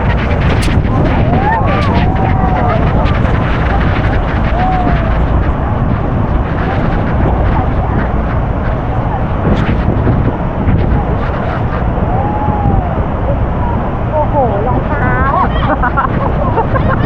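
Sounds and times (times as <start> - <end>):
faint voices: 0.0 - 17.0
wind buffeting microphone: 0.0 - 17.0.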